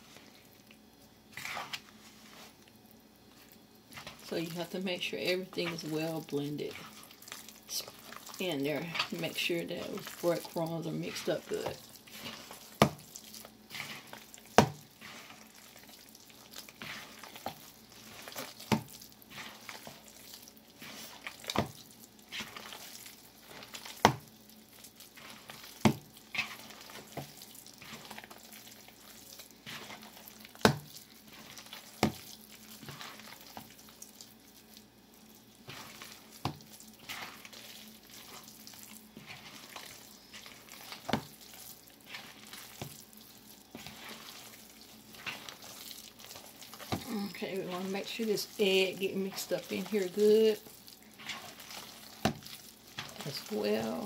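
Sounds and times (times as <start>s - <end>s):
wet squelching of meat mixture: 0.0s - 54.0s.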